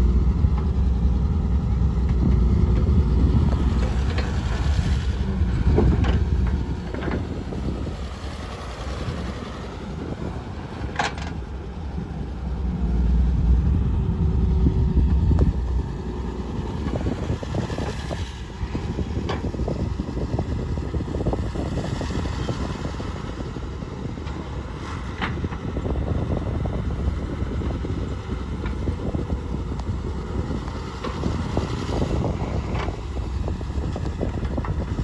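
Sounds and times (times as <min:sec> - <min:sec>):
diesel machinery engines running: 0:00.0 - 0:35.0.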